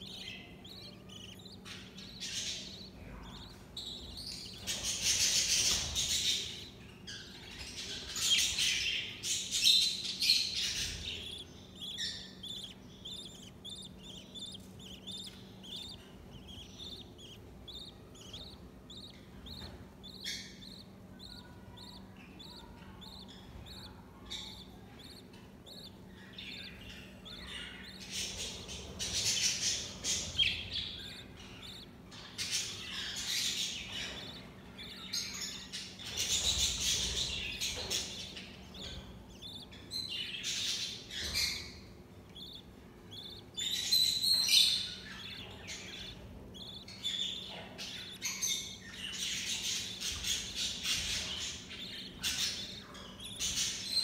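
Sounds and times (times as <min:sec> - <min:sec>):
budgerigar chicks chirping raspily: 0:00.0 - 0:54.0.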